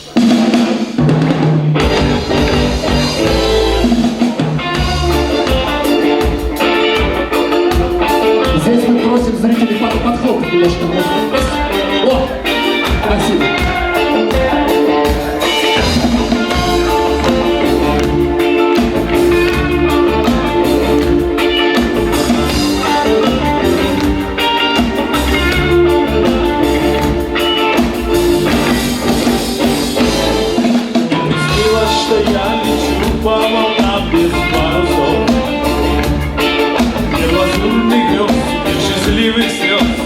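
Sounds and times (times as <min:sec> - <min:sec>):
drum kit steady beat: 0:00.0 - 0:40.0
electric guitar playing: 0:01.0 - 0:40.0.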